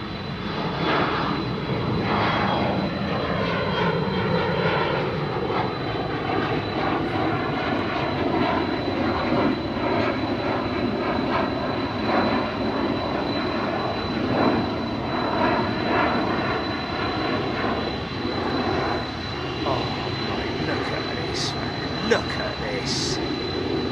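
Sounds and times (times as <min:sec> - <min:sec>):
jet engines running: 0:00.0 - 0:23.9.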